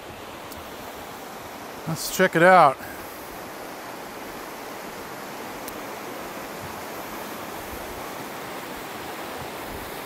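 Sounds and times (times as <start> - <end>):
river rushing over gravel: 0.0 - 10.0.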